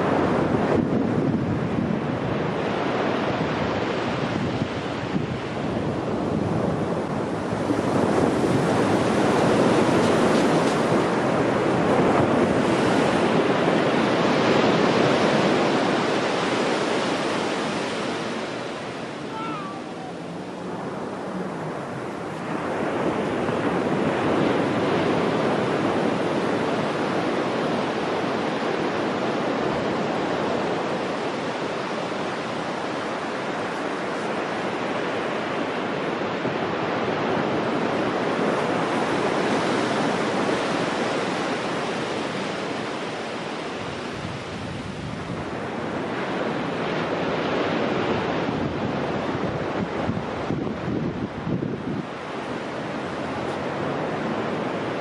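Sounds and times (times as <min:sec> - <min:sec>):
ocean surf on beach: 0:00.0 - 0:55.0.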